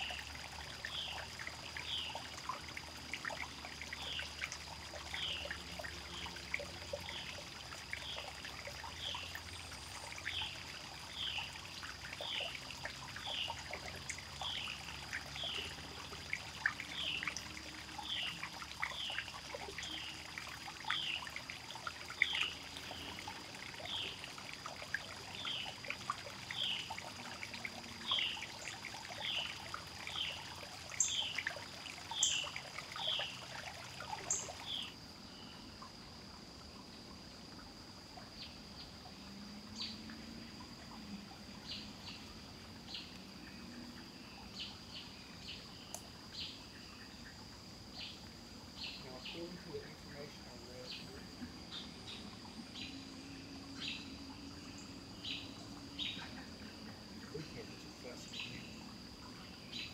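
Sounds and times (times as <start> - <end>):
cicadas whining: 0.0 - 59.9.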